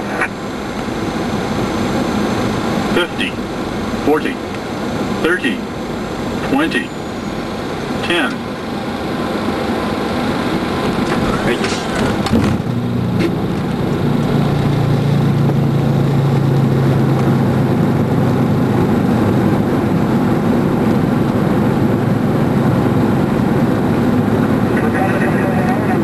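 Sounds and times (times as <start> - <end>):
jet engines and rushing air roar: 0.0 - 26.0.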